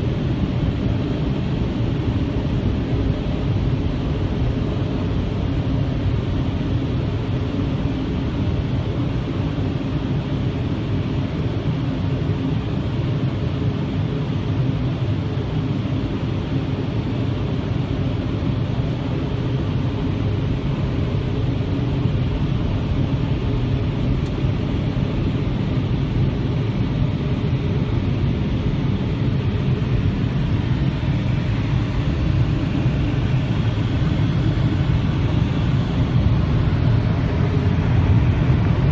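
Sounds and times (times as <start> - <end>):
car wash rumble and hiss: 0.0 - 38.9.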